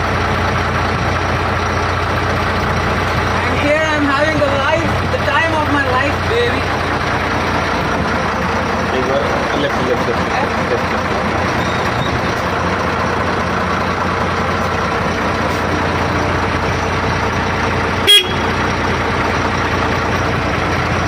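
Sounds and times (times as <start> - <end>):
motor boat engine droning: 0.0 - 21.0.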